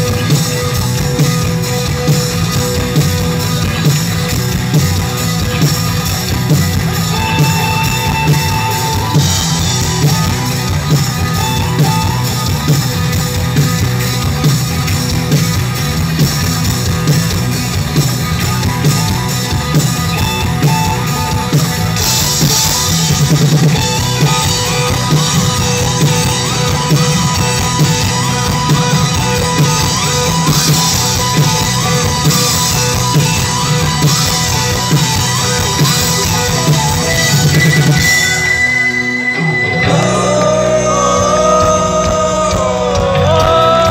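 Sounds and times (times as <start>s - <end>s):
bass guitar: 0.0s - 43.9s
drum kit: 0.0s - 43.9s
electric guitars: 0.0s - 43.9s
live rock band playing loudly: 0.0s - 43.9s.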